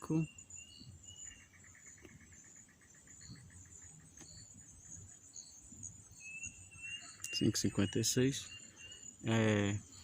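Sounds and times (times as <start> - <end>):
insects droning: 0.0 - 10.0
pulsing insect chirp: 0.0 - 10.0.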